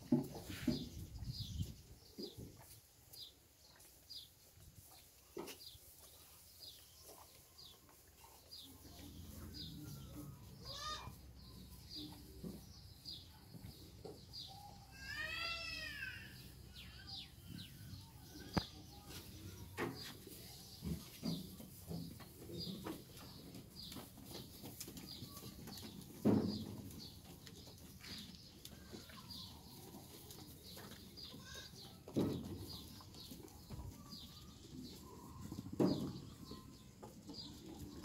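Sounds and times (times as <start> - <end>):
small birds chirping: 0.4 - 38.0.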